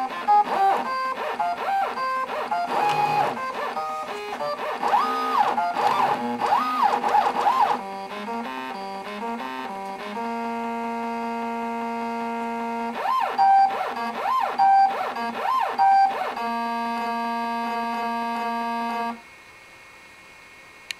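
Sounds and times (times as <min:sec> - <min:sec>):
stepper motors playing buzzy notes: 0:00.0 - 0:19.2.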